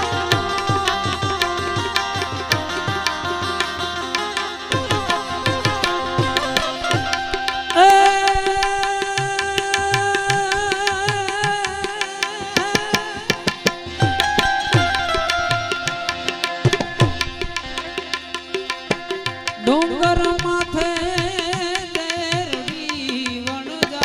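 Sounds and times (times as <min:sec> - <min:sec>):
harmonium melody: 0:00.0 - 0:24.0
sharp percussive ticks: 0:00.0 - 0:24.0
tabla drumming: 0:00.0 - 0:24.0.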